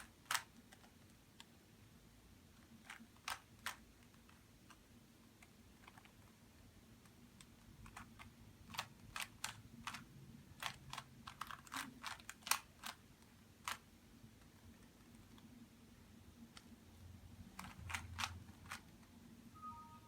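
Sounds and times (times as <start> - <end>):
puzzle cube clicking: 0.0 - 1.6, 2.5 - 15.6, 17.4 - 19.2.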